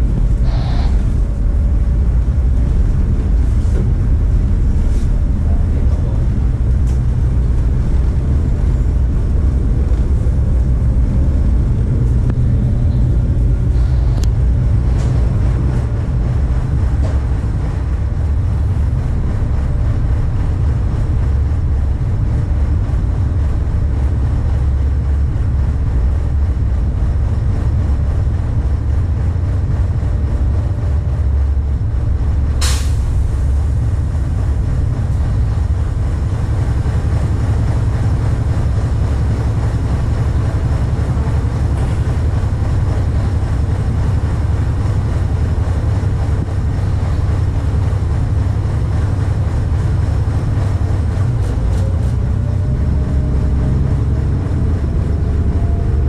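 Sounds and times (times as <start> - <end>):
ship diesel engines droning: 0.0 - 56.0.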